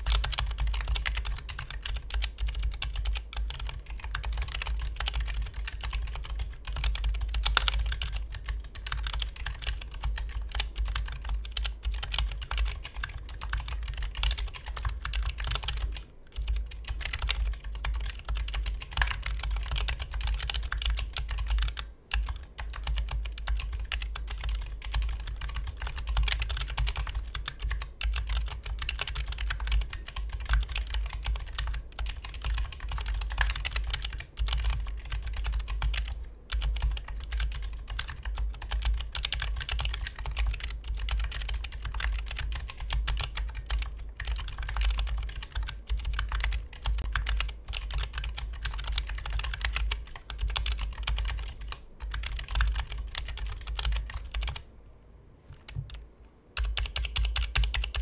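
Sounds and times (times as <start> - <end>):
keyboard typing: 0.0 - 54.6, 56.6 - 58.0.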